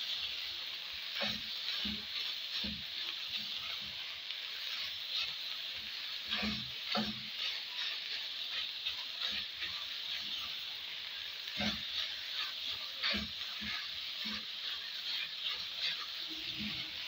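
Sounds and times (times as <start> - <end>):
onions sizzling in a pan: 0.0 - 17.0
spoon scraping a pan: 0.1 - 17.0.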